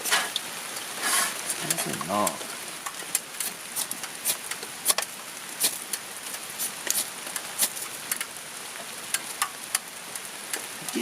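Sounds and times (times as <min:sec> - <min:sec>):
rain hissing on a tarp: 0:00.0 - 0:11.0
drops ticking on tarp: 0:01.6 - 0:11.0.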